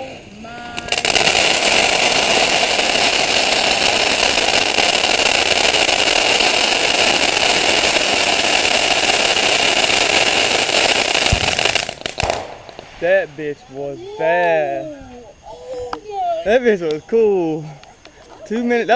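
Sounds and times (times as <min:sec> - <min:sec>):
firework crackling bursts: 0:00.0 - 0:15.5.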